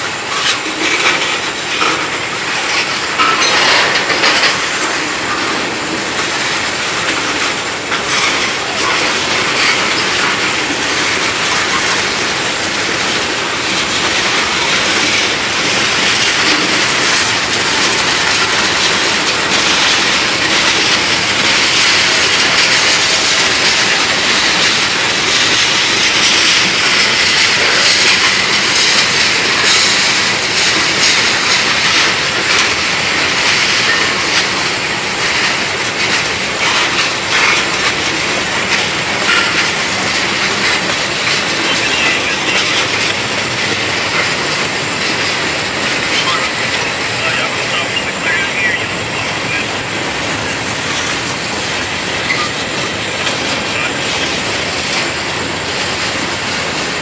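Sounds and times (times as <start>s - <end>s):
clicks over rail joints: 0.0s - 48.7s
train wheels rolling on rail: 0.0s - 57.0s.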